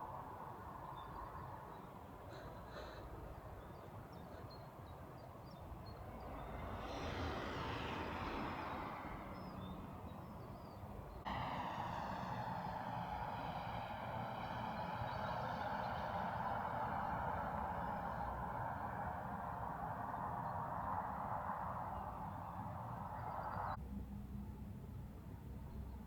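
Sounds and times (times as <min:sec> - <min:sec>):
aircraft passing overhead: 0:00.0 - 0:23.8.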